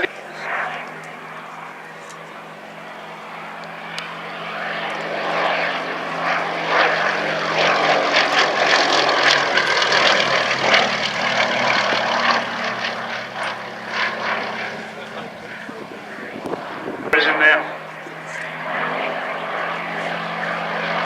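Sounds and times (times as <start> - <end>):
propeller aircraft engine: 0.0 - 21.0.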